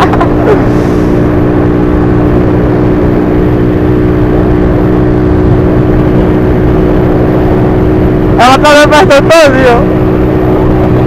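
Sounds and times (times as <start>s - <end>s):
motorcycle engine running steadily: 0.0s - 11.0s
wind noise on microphone: 0.0s - 11.0s.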